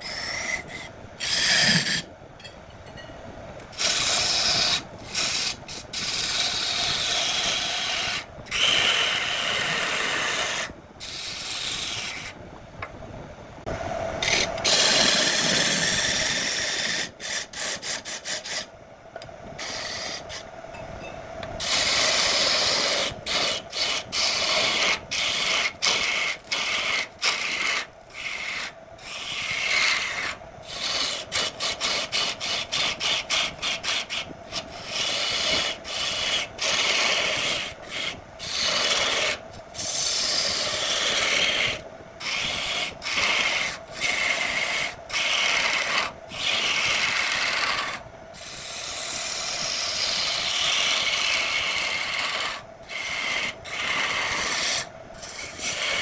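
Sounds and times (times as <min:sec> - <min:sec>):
tool scraping spinning wood: 0:00.0 - 0:12.3, 0:14.2 - 0:20.5, 0:21.6 - 0:56.0.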